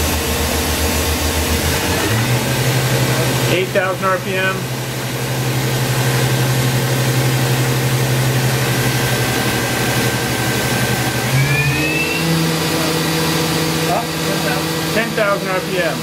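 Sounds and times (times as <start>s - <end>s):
machine spindle hum: 0.0s - 16.0s
thin high whine: 2.6s - 16.0s.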